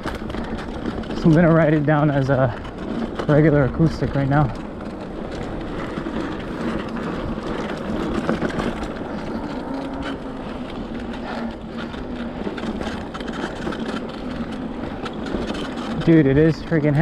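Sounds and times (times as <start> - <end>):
bike rattles and clicks: 0.0 - 17.0
bike tyres on dirt: 0.0 - 17.0.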